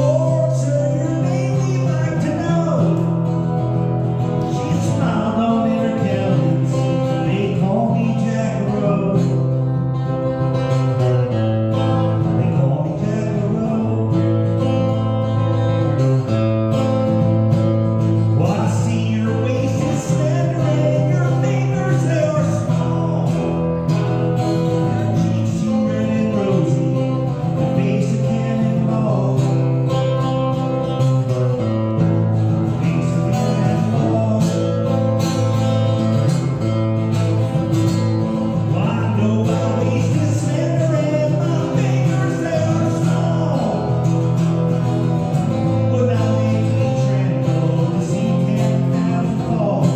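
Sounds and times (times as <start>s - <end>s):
acoustic guitar chords: 0.0s - 49.9s
man singing: 0.0s - 49.9s.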